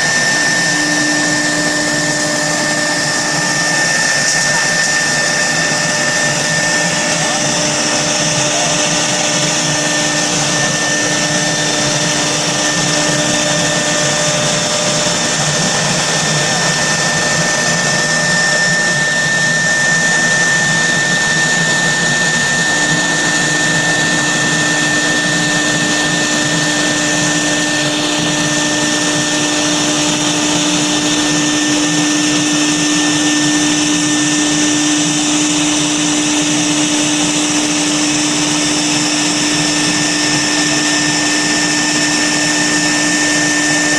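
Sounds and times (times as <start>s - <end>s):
router spindle cutting whine: 0.0s - 43.9s.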